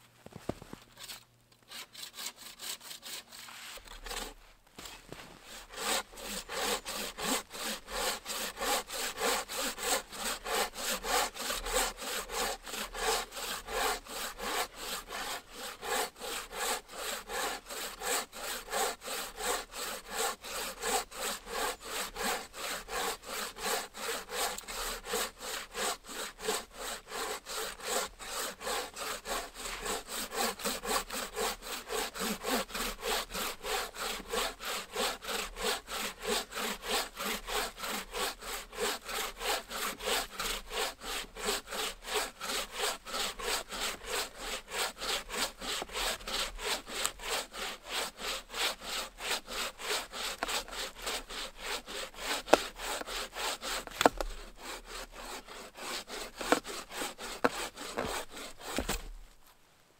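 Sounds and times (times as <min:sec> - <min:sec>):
bow saw cutting log: 0:00.9 - 0:59.5.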